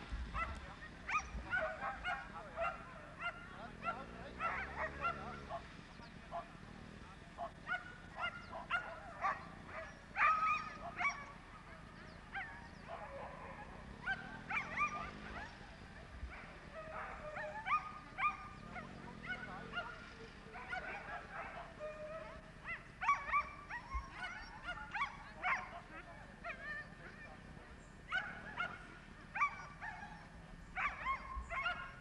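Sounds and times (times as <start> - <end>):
dogs yelping and barking: 0.0 - 27.4, 28.0 - 32.0.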